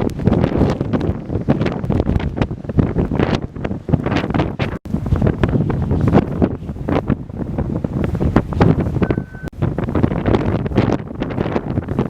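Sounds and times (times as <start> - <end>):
wind gusting against microphone: 0.0 - 12.0.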